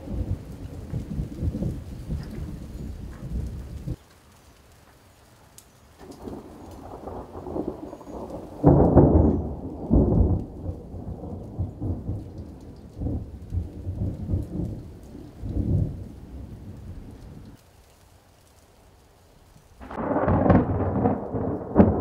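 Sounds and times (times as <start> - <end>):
thunder rumbling: 0.0 - 4.0, 6.0 - 17.6, 19.8 - 22.0.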